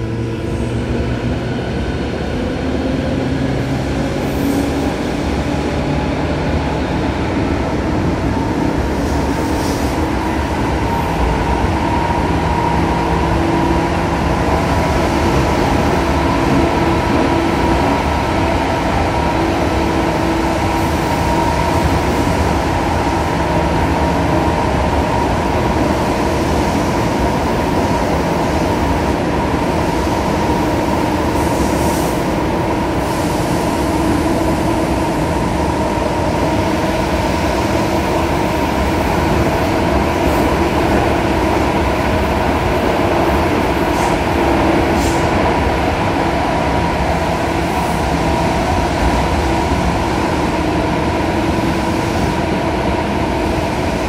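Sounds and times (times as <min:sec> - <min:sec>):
train wheels and motors rumbling: 0:00.0 - 0:54.0.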